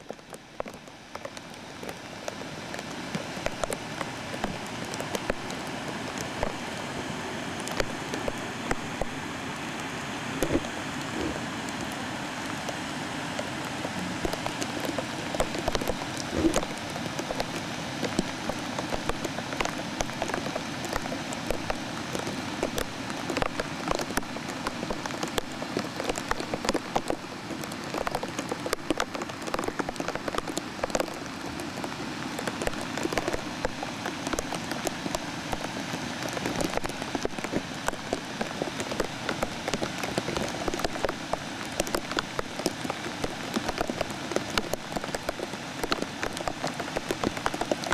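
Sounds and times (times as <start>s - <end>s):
rain drops ticking: 0.0s - 47.9s
rain rushing noise: 0.0s - 47.9s.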